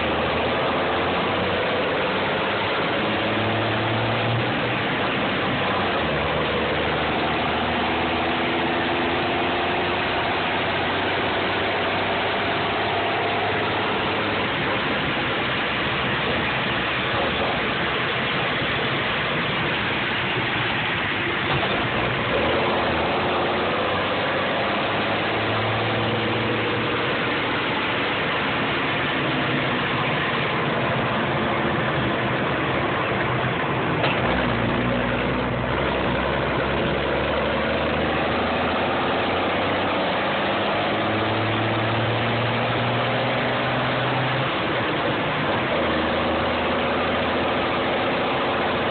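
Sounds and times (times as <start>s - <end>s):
truck diesel engine running: 0.0s - 48.9s.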